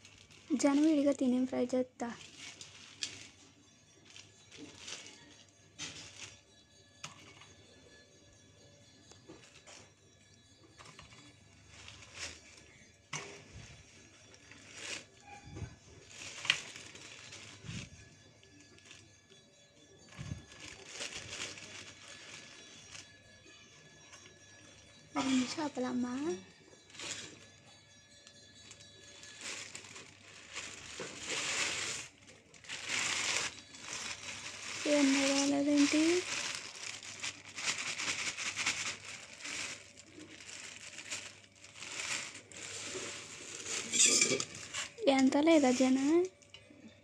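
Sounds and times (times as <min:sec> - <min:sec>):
plastic bag crinkling: 0:00.0 - 0:06.6, 0:10.8 - 0:19.4, 0:20.0 - 0:23.2, 0:25.2 - 0:46.5.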